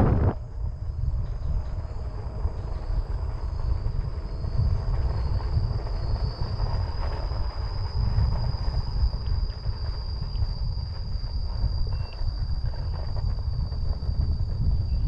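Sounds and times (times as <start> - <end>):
low road rumble: 0.0 - 15.0
thin steady high whine: 0.0 - 15.0
wind buffeting microphone: 0.0 - 15.0.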